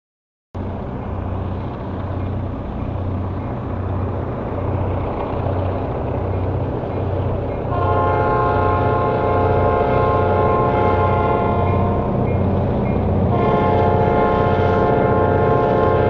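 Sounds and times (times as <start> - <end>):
diesel locomotives droning under load: 0.6 - 16.0.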